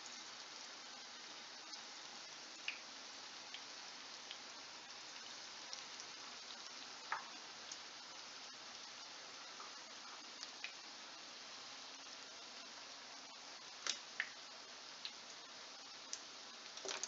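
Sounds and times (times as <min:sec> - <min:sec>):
patties sizzling in oil: 0:00.0 - 0:17.0.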